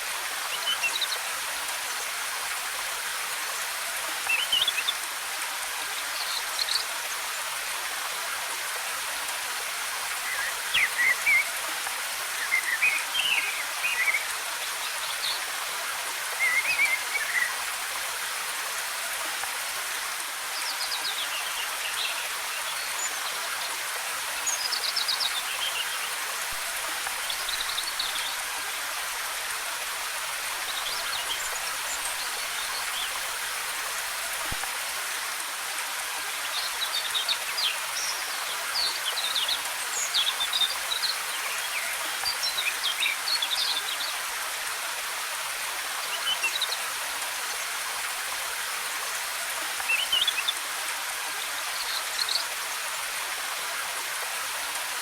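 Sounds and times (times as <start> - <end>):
waterfall rushing: 8.5 - 55.0.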